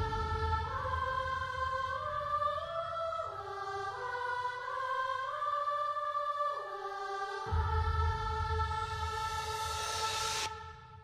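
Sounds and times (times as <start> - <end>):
slow choir-like singing: 0.0 - 11.0.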